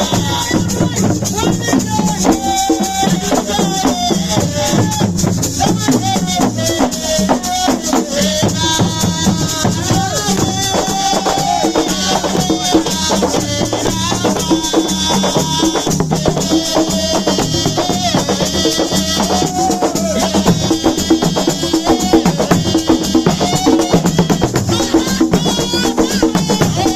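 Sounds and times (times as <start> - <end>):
fast percussion rattle and drums: 0.0 - 26.9.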